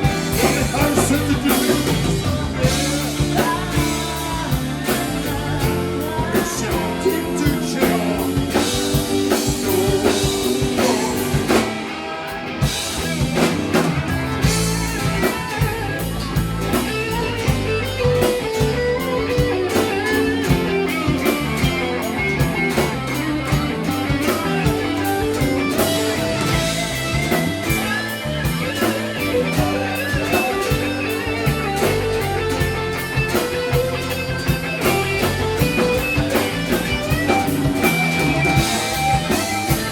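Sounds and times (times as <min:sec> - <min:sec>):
electric guitar melody: 0:00.0 - 0:39.9
rock band playing: 0:00.0 - 0:39.9.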